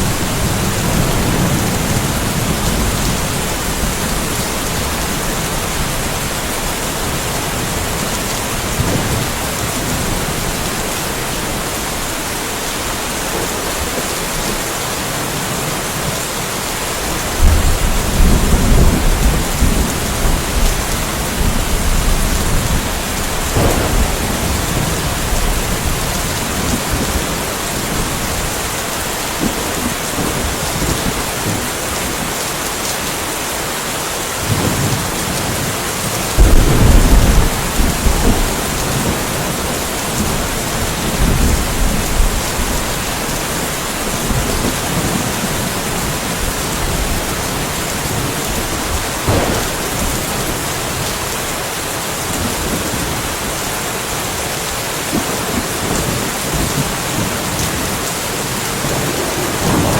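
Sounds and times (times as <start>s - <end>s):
thunder rumbling: 0.0s - 16.3s, 17.0s - 32.3s, 36.3s - 51.6s, 55.1s - 59.9s
steady rain falling: 0.0s - 59.9s.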